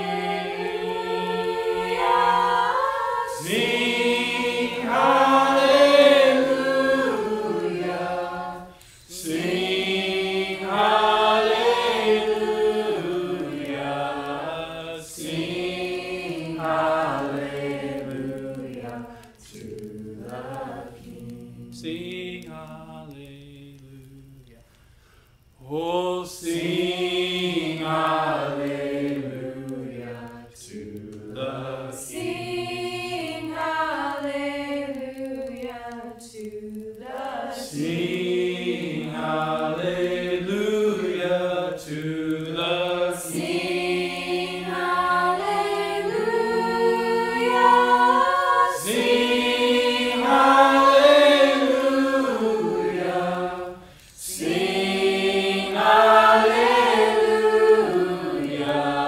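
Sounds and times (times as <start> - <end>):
voices singing worship chorus: 0.0 - 59.0.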